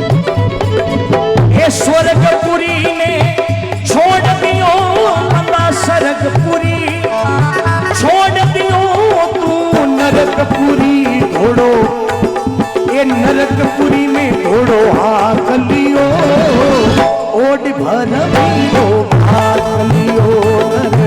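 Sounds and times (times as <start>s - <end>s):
hand drum beating: 0.0s - 21.0s
ornamented folk melody: 0.0s - 21.0s.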